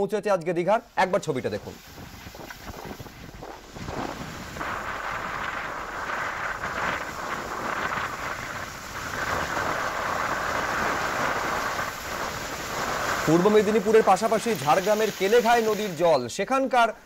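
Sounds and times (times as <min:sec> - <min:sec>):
waves breaking against sea wall: 0:01.0 - 0:16.2
wind on microphone: 0:01.5 - 0:16.0.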